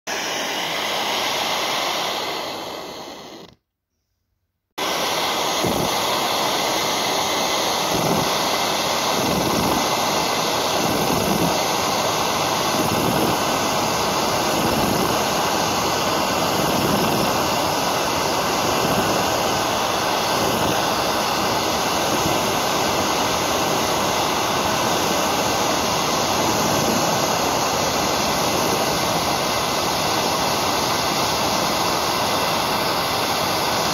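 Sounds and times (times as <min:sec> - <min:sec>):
gas torch flame rushing: 0:00.1 - 0:03.6, 0:04.8 - 0:33.9.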